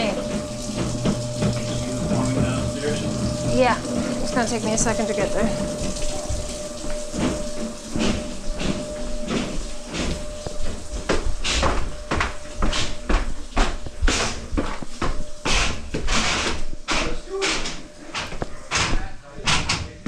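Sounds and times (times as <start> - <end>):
heavy footsteps on stairs: 0.0 - 20.0.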